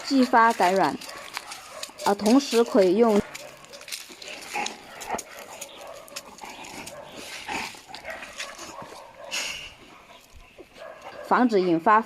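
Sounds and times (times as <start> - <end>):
dogs making faint sounds: 0.0 - 11.8.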